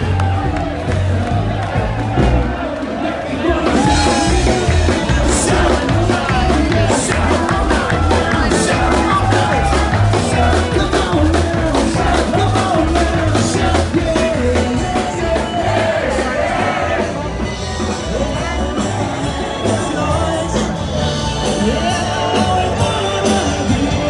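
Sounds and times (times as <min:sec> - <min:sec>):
live band music: 0:00.0 - 0:24.0
steady drum beat: 0:00.0 - 0:24.0
person singing: 0:03.1 - 0:17.0, 0:18.1 - 0:24.0.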